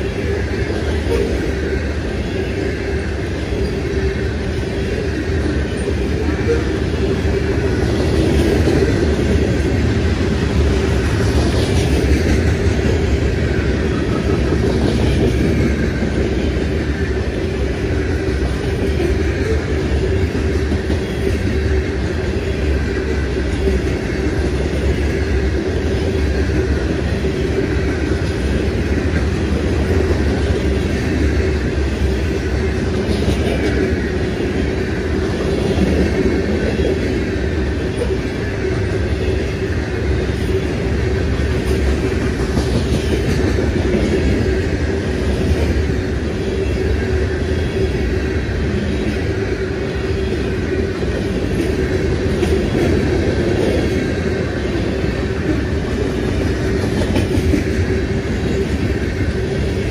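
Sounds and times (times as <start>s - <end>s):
steel wheels running on rails: 0.0s - 59.9s.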